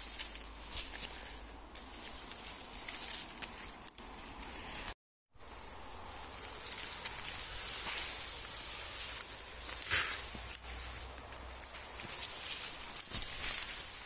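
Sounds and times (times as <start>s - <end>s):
ferns rustling against body: 0.0s - 14.0s.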